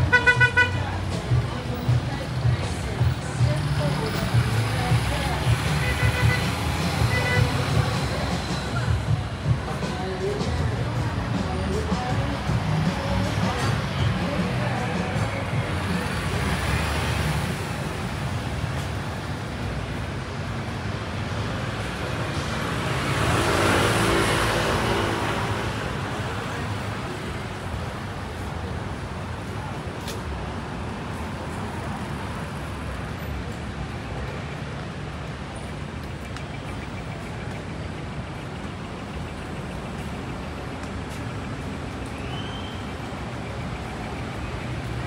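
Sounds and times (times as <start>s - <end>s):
passing cars: 0.0s - 45.0s.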